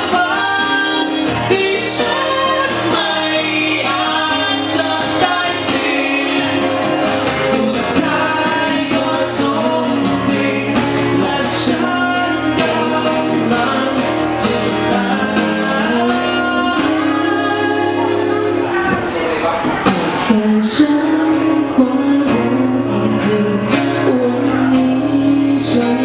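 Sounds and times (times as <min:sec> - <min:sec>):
person singing with band: 0:00.0 - 0:26.0.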